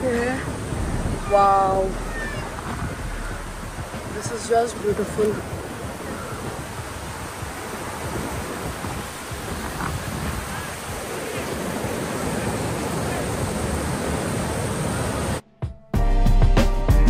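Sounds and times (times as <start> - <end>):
river rushing over rocks: 0.0 - 15.4.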